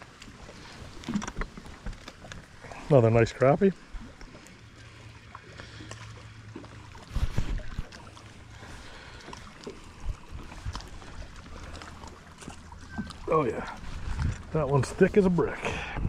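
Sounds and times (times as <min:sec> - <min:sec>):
water around boat: 0:00.0 - 0:16.0.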